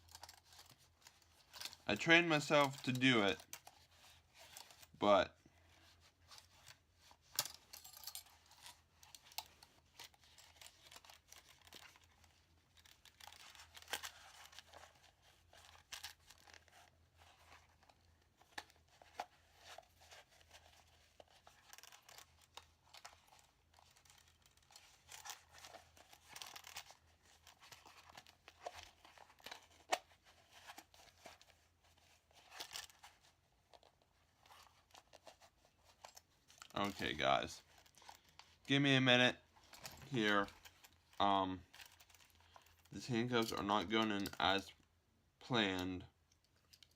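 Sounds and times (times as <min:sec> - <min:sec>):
handcuffs rustling and clicking: 0:00.0 - 0:05.0, 0:05.6 - 0:44.9, 0:45.6 - 0:46.9.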